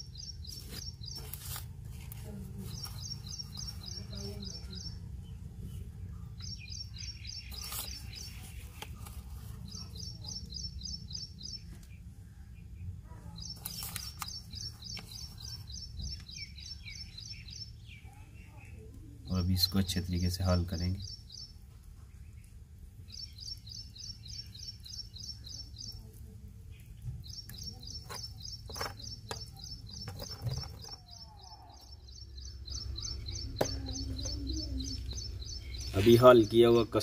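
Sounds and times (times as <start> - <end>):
bird chirping in trills: 0.0 - 1.4, 2.7 - 18.6, 19.3 - 26.1, 26.7 - 37.0.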